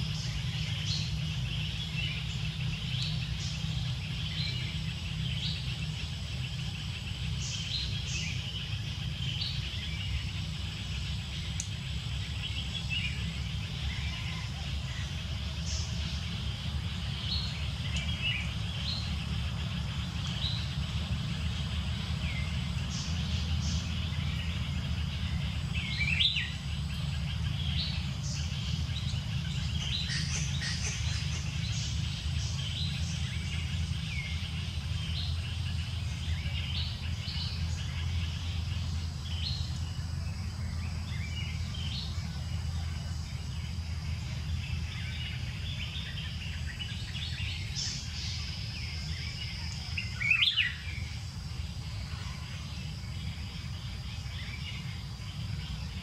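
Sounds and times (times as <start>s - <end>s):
birds chirping: 0.0s - 56.0s
high insect drone: 0.0s - 56.0s
sharp bird calls: 0.0s - 56.0s.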